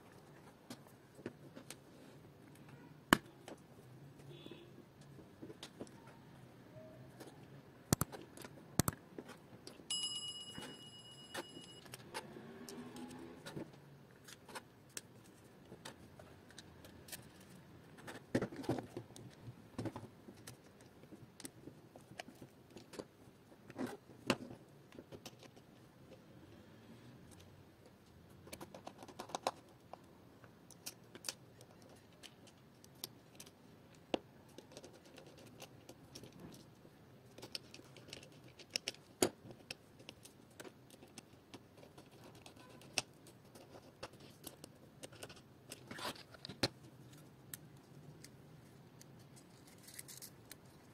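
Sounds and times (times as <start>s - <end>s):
plastic parts clicking and scraping: 5.0s - 6.2s, 7.0s - 9.9s, 11.8s - 26.3s, 27.2s - 50.9s.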